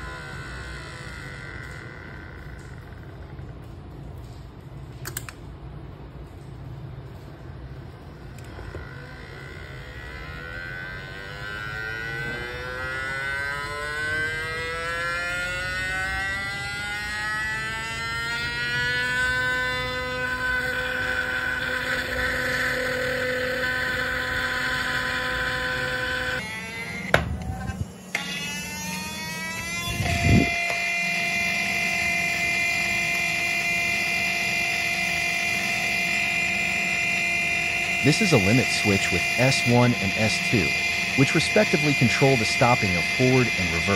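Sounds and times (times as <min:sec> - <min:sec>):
plastic case buzzing: 0:00.0 - 0:03.4, 0:08.3 - 0:43.9
small electric motor whining: 0:00.0 - 0:03.5, 0:08.2 - 0:43.9.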